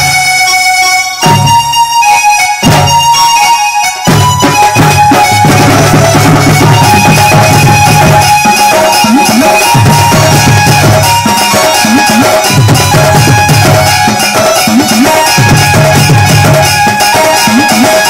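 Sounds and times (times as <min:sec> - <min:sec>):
electronic keyboard melody: 0:00.0 - 0:18.0
drum beat: 0:01.2 - 0:01.8, 0:02.6 - 0:03.2, 0:04.0 - 0:18.0.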